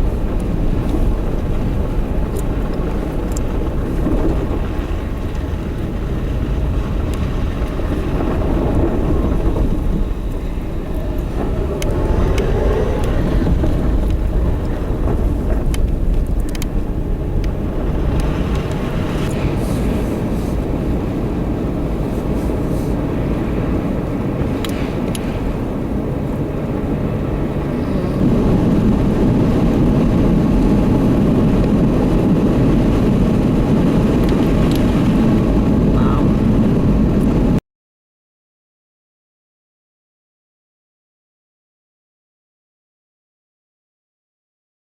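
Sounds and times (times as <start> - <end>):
engine running with low rumble: 0.0 - 37.6.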